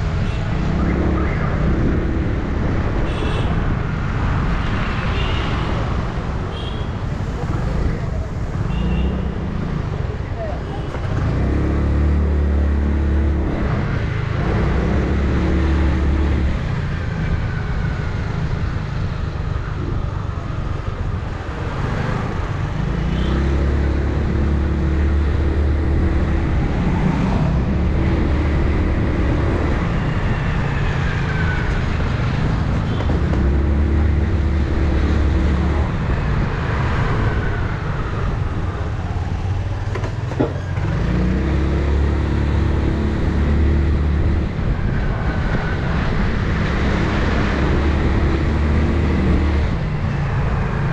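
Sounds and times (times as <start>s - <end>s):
wind and road noise: 0.0s - 50.9s.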